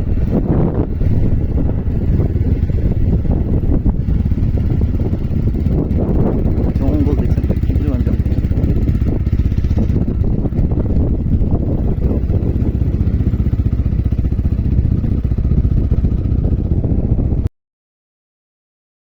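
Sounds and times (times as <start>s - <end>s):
motorcycle engine running: 0.0s - 17.5s
wind noise on microphone: 0.0s - 17.5s.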